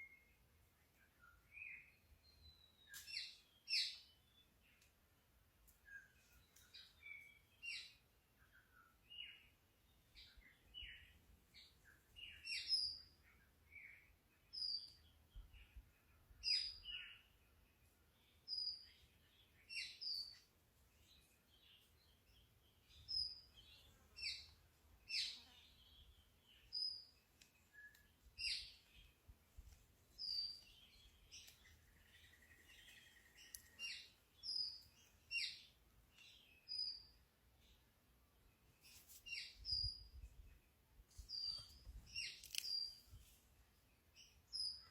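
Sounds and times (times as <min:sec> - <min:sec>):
birds chirping: 0:05.8 - 0:44.9.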